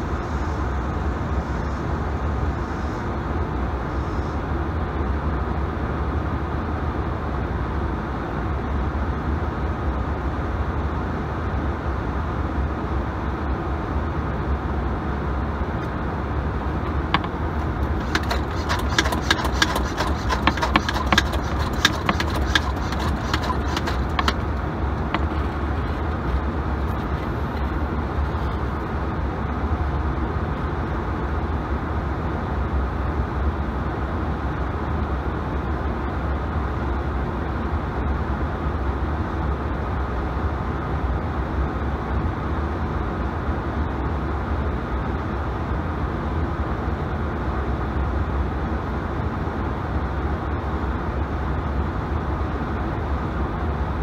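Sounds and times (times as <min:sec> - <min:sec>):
outdoor rumble and hiss: 0:00.0 - 0:54.0.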